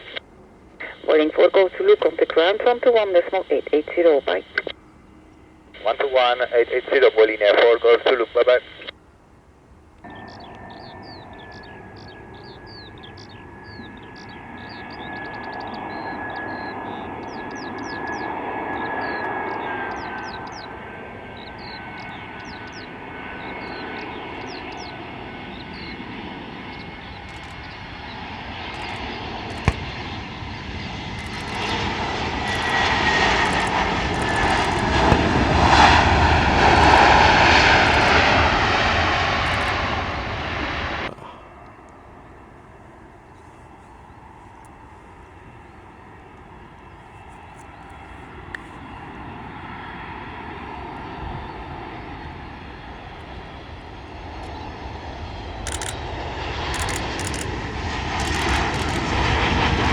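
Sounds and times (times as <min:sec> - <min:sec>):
jet airliner flying past: 0:00.0 - 0:59.9.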